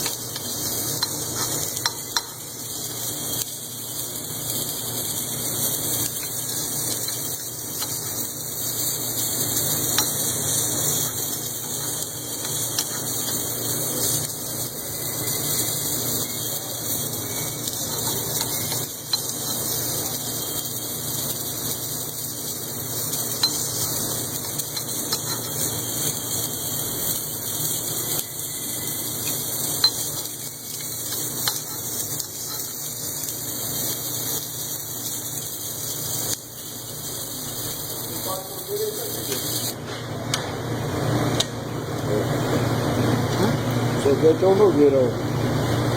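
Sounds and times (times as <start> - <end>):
machine hissing and grinding: 0.0 - 39.9.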